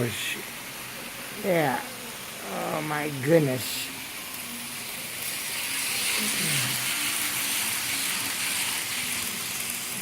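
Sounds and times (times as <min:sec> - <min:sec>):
model trains high-pitched hiss: 0:00.0 - 0:10.0.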